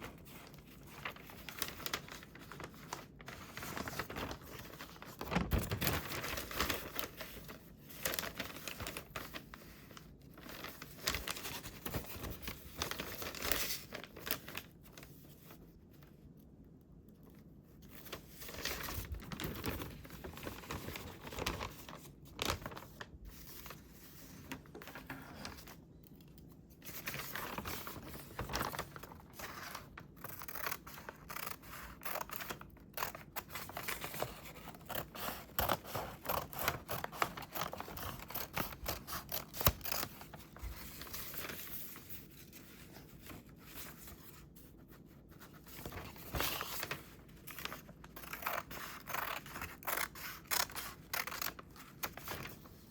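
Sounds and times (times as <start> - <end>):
paper rustling and tearing: 0.2 - 15.6, 17.9 - 25.8, 26.8 - 44.6, 45.2 - 52.9.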